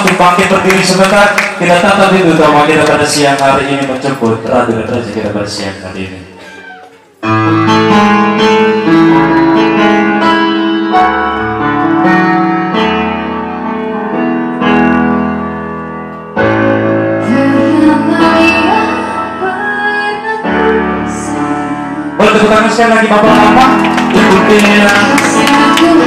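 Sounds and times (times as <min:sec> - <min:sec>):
slow piano chords: 0:00.0 - 0:26.0.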